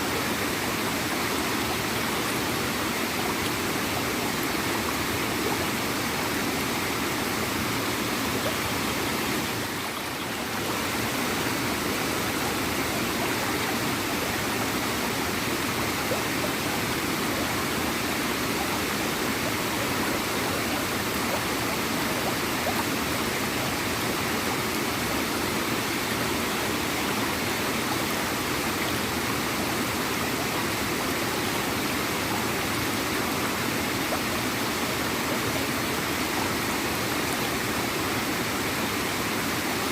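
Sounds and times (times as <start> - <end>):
waterfall and stream gurgling: 0.0 - 39.9.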